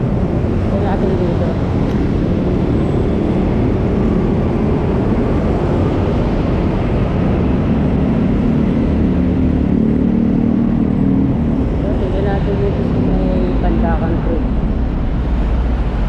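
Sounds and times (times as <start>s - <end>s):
engine hum: 0.0s - 16.0s
vehicle road noise: 0.0s - 16.0s.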